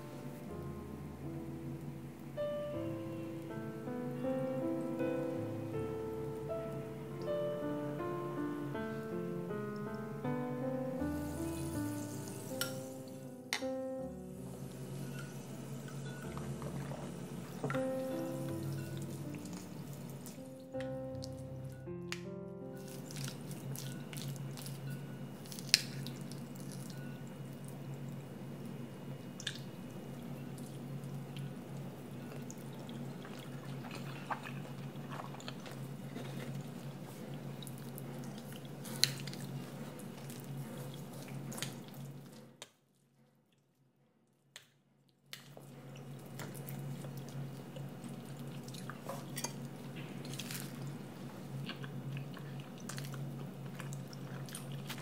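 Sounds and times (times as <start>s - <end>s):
low room hum: 0.0s - 55.0s.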